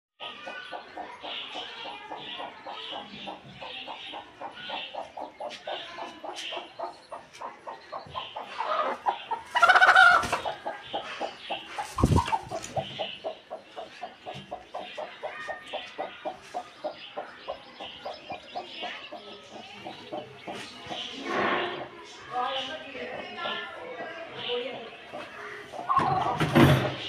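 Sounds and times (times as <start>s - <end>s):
hen clucking: 0.2s - 27.0s.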